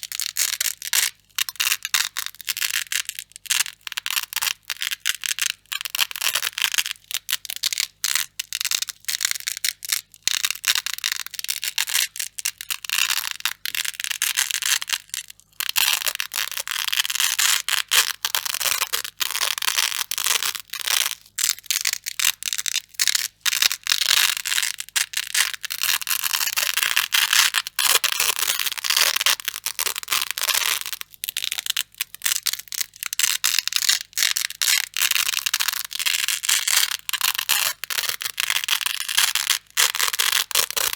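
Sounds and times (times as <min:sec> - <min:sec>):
velcro ripping apart: 0:00.0 - 0:40.9.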